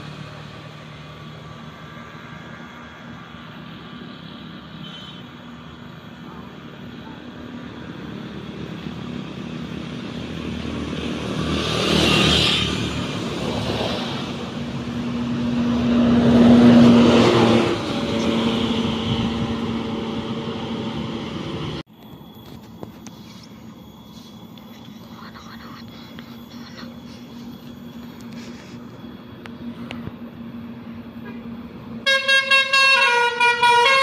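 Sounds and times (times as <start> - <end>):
buses driving past: 0.0 - 34.0
traffic noise: 0.0 - 34.0.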